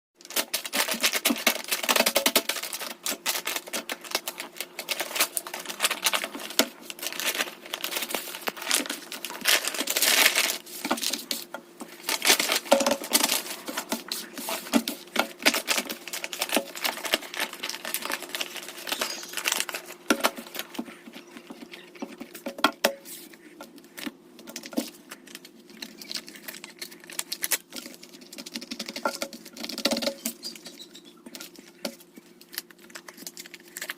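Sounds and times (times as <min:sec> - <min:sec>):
squeeze stickers crinkly clicks: 0:00.2 - 0:22.2, 0:23.7 - 0:33.9.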